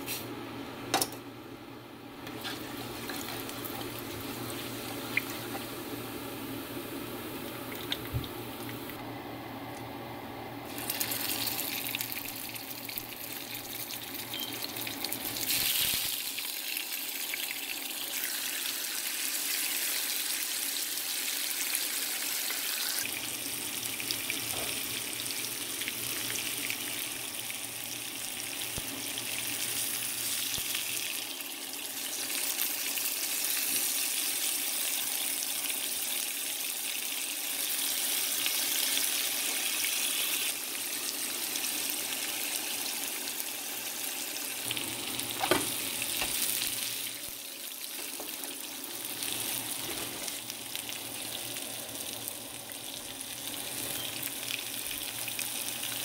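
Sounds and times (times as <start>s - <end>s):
oil sizzling in a frying pan: 10.6s - 56.0s.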